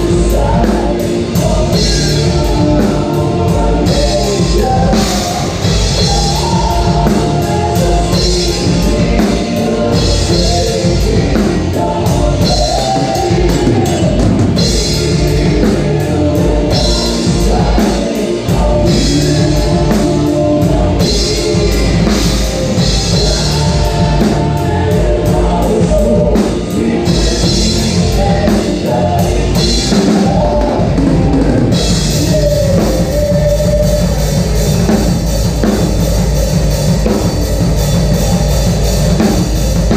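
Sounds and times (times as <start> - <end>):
distorted guitars: 0.0 - 39.9
drum kit: 0.0 - 39.9
loud rock music: 0.0 - 39.9
person singing: 0.0 - 39.9.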